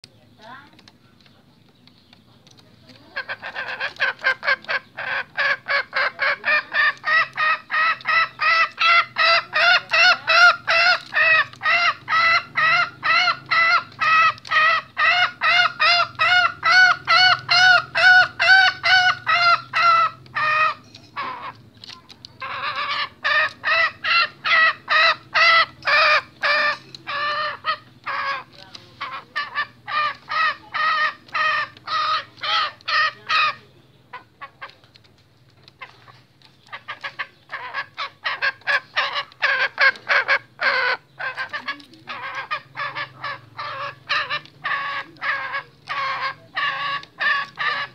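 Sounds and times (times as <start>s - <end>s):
junglefowl calling: 2.9s - 35.0s, 35.6s - 47.9s.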